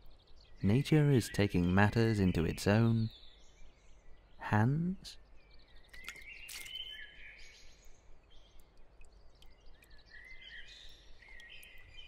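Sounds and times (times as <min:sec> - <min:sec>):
birds chirping: 0:00.0 - 0:12.0
faint wetland ambience: 0:00.0 - 0:12.0.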